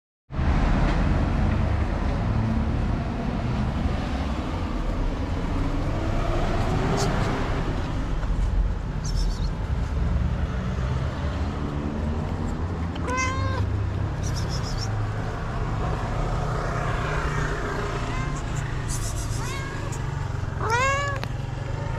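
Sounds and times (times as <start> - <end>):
traffic rumble: 0.3 - 21.9.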